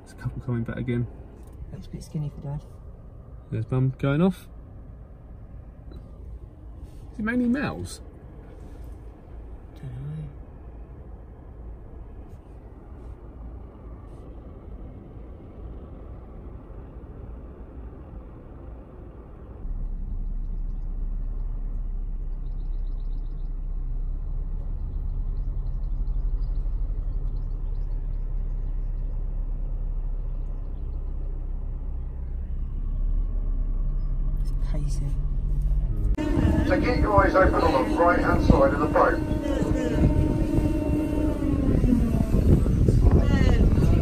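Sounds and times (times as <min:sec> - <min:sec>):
boat engine hum: 0:00.0 - 0:44.0
car driving rumble: 0:00.0 - 0:44.0.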